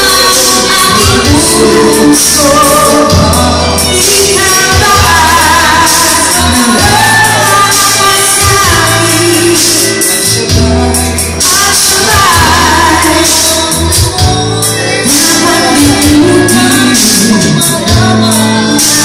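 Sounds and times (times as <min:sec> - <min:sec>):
amplified pop backing music: 0:00.0 - 0:19.0
man and woman singing duet: 0:00.0 - 0:19.0.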